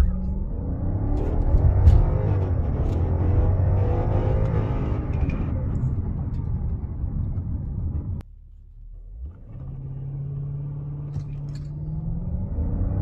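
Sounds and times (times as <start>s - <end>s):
car engine accelerating: 0.0s - 8.2s, 8.8s - 13.0s.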